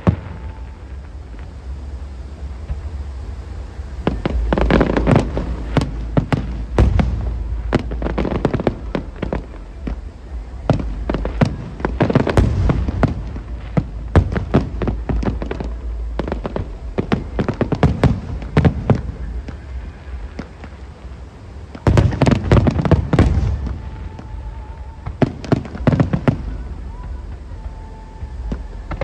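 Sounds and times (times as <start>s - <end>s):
fireworks bangs and crackles: 0.0s - 29.0s
steady low rumble: 0.0s - 29.0s.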